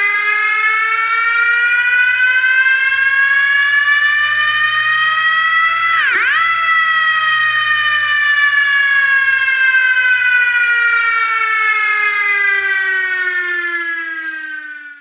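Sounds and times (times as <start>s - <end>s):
fire truck siren winding down: 0.0s - 15.0s.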